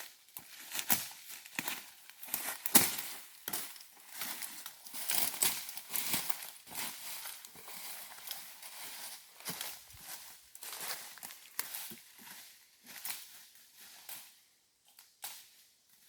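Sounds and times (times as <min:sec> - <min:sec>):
footsteps on dry leaves and twigs: 0:00.0 - 0:14.4.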